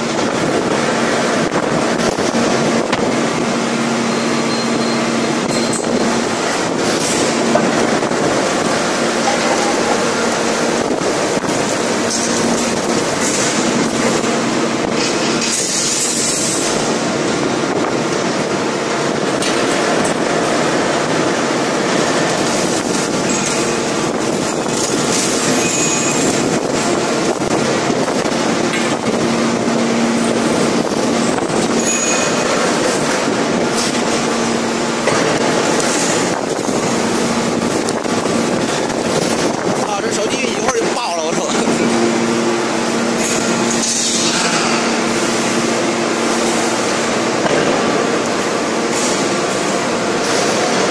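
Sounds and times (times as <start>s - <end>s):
forging press machinery running: 0.0s - 50.9s.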